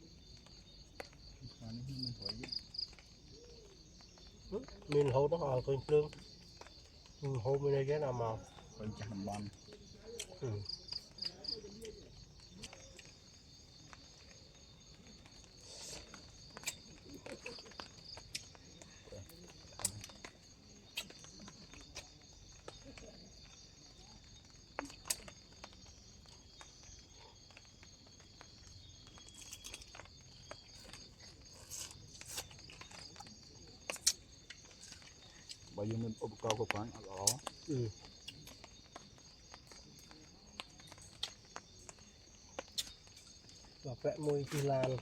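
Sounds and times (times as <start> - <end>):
crickets and insects chirring: 0.0 - 45.0.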